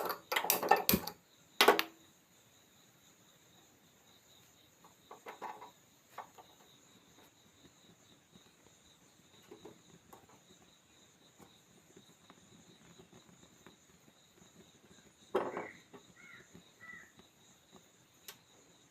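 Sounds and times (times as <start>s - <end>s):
faint high-pitched hiss: 0.0s - 18.9s.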